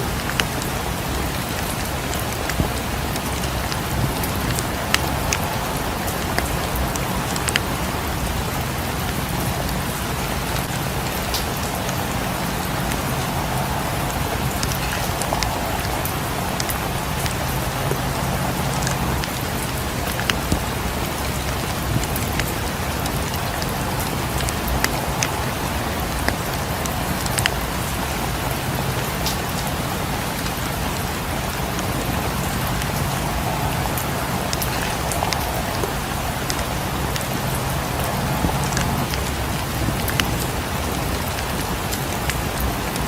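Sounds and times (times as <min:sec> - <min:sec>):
crackling fireplace: 0:00.0 - 0:43.0
rain pattering on windows: 0:00.0 - 0:43.0.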